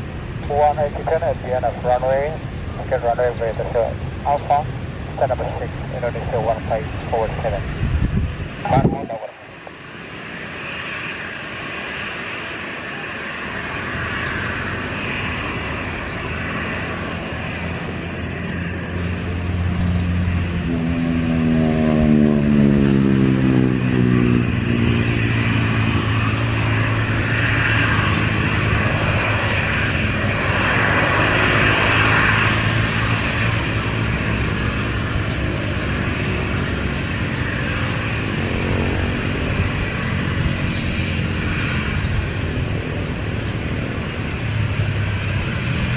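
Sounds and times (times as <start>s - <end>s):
jet airliner passing: 0.0s - 45.9s.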